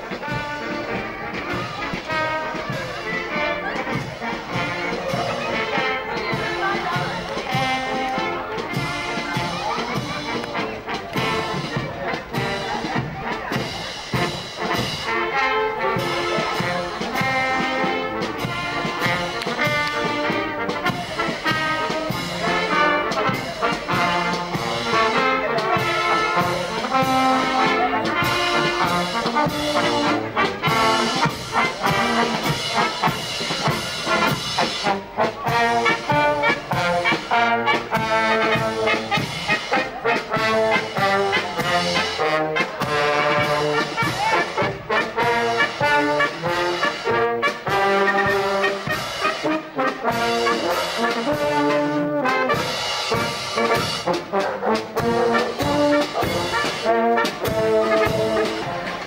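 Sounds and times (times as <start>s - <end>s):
marching brass band playing: 0.0s - 59.0s
trombones and trumpets: 0.0s - 59.0s.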